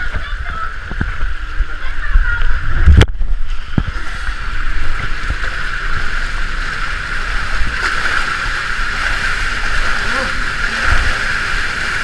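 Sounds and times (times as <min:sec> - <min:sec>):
low rumbling: 0:00.0 - 0:12.0
water rushing in slide tube: 0:00.0 - 0:12.0.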